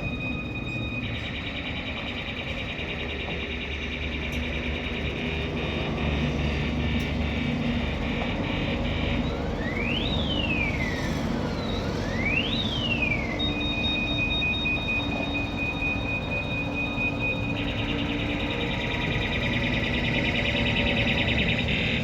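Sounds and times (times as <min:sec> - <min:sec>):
low engine hum: 0:00.0 - 0:22.0
vehicle alarm tones: 0:00.0 - 0:22.0.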